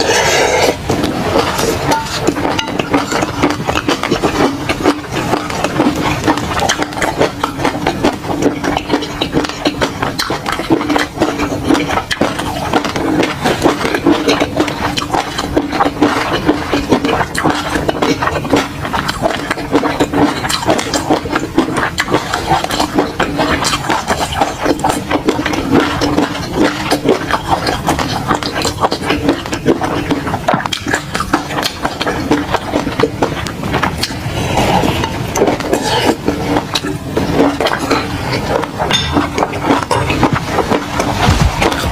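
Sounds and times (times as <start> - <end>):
steady low hum: 0.0 - 41.9
wet chewing and mouth smacks: 0.0 - 41.9.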